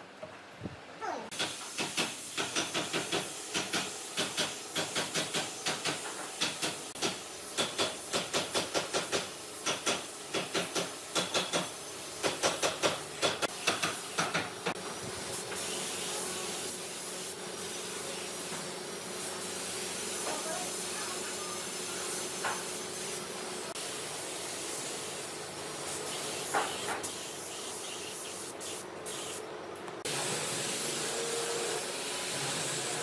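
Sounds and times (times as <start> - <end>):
hiss: 1.3 - 29.4, 30.0 - 33.0.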